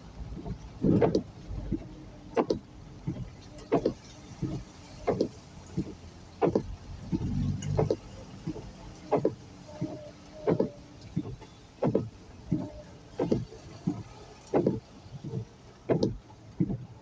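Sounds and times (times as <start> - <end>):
low engine and road hum: 0.0 - 17.0
windscreen wipers sweeping: 0.0 - 17.0.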